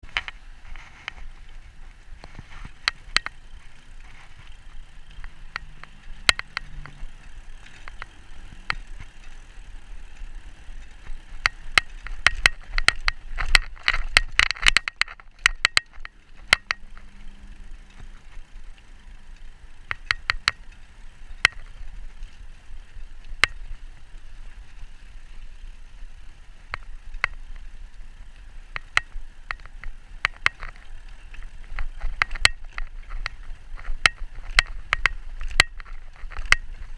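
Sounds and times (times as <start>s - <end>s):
sharp clicks and cracks: 0.0s - 25.4s, 26.0s - 36.9s
bike tyres rolling on rough path: 0.0s - 36.9s.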